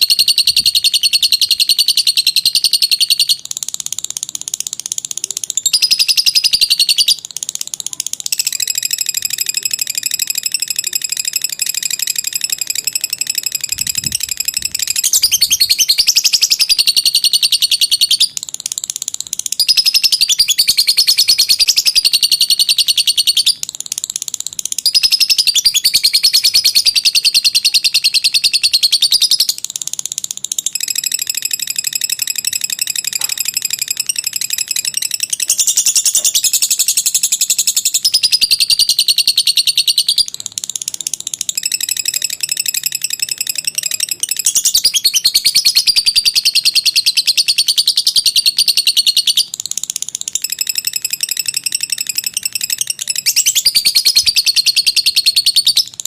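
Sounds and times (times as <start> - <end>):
lovebird chattering trill: 0.0 - 56.0.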